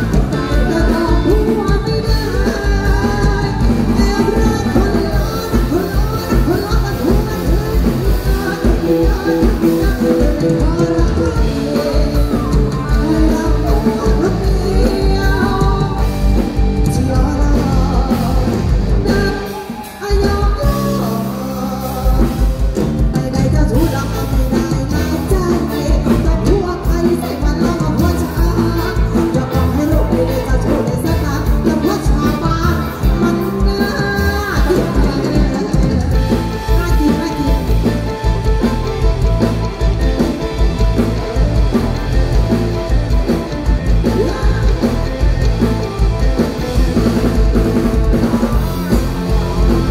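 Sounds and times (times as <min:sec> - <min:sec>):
woman singing into a microphone: 0:00.0 - 0:39.4, 0:43.6 - 0:45.7
live band over a pa: 0:00.0 - 0:49.9
steady drum beat: 0:00.0 - 0:49.9.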